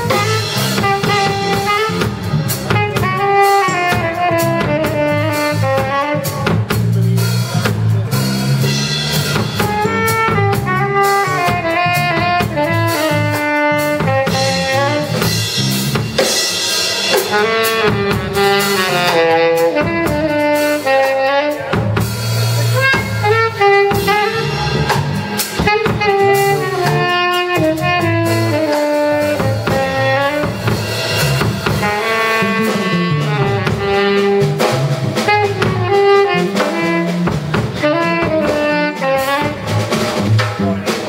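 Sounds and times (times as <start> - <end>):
drum kit: 0.0 - 41.0
electric bass guitar: 0.0 - 41.0
saxophone melody: 0.0 - 41.0.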